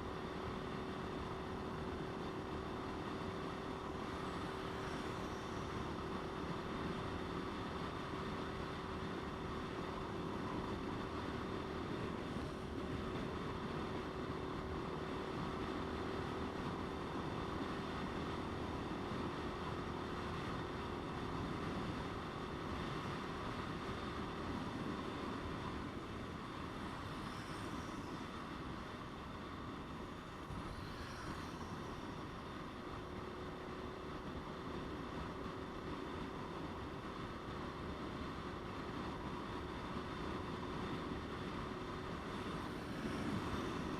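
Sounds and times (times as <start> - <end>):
wind and road rush: 0.0 - 43.9.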